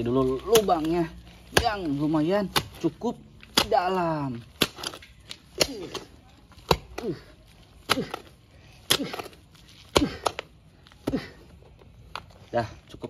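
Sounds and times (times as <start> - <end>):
hoe striking stony soil: 0.0 - 11.4
soil falling: 0.0 - 13.0.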